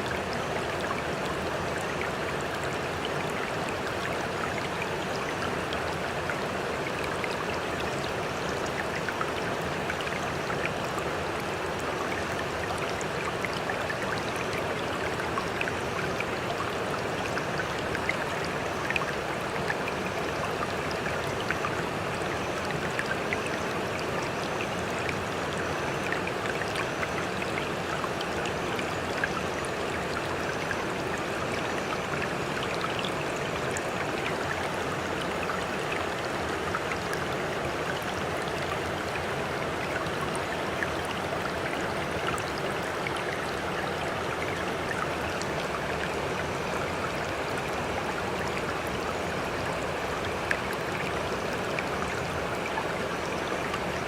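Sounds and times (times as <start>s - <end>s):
rushing water with splashes: 0.0s - 54.0s.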